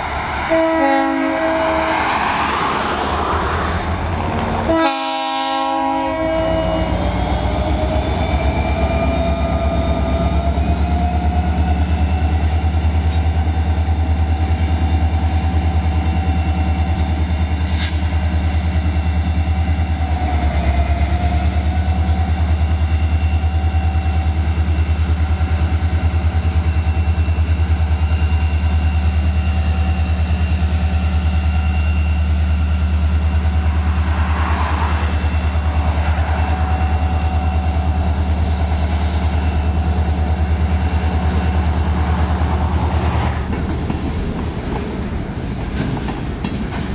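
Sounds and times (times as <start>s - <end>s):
locomotive whine: 0.0s - 46.5s
freight locomotive engines rumbling: 0.0s - 46.9s.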